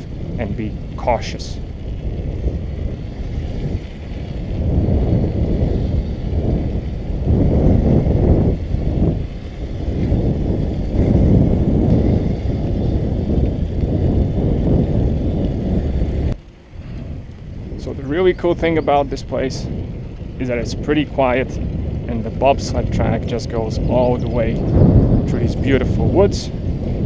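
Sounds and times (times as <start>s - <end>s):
bicycle tyre rumble: 0.0s - 27.0s
wind buffeting microphone: 0.0s - 27.0s.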